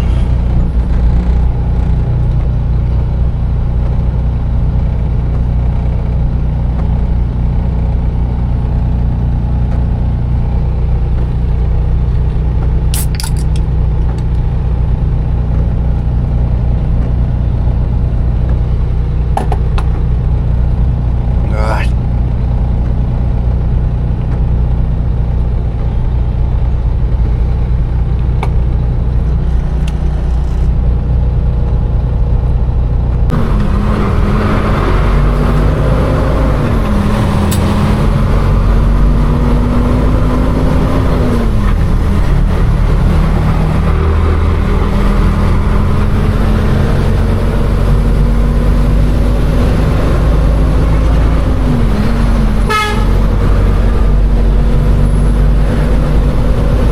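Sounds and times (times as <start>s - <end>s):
truck diesel engine: 0.0s - 56.9s.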